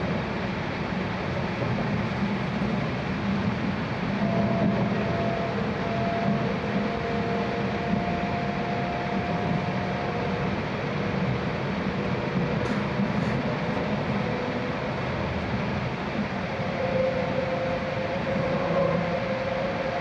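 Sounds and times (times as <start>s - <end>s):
faint steady whine: 0.0s - 20.0s
train running noise inside cabin: 0.0s - 20.0s.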